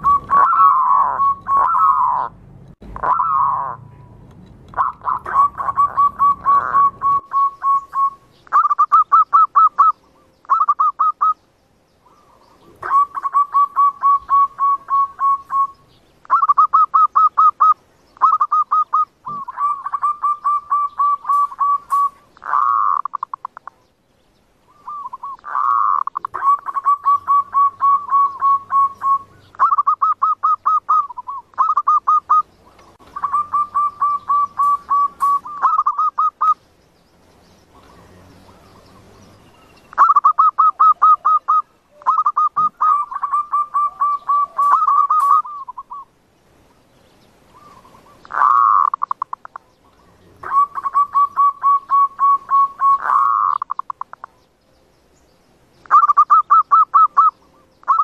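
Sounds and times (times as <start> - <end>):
dove cooing: 0.0 - 2.4, 3.0 - 4.1, 4.7 - 11.4, 12.0 - 23.8, 24.7 - 36.6, 37.7 - 46.1, 47.5 - 54.4, 55.8 - 58.0.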